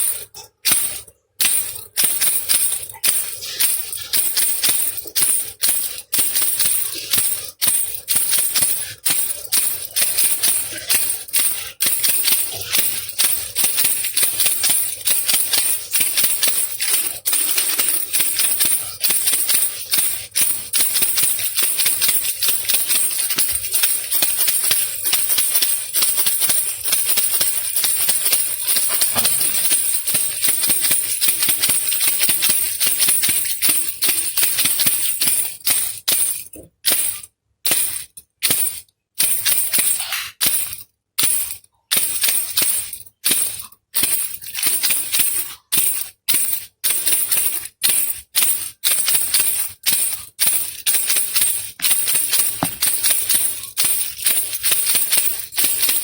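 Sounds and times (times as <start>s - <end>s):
baby rattle shaken: 0.0s - 56.0s.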